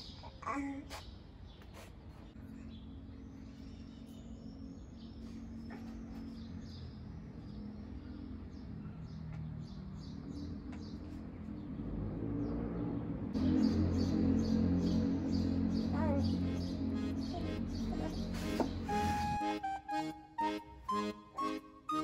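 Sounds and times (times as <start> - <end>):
small songbirds chirping: 0.0 - 22.0.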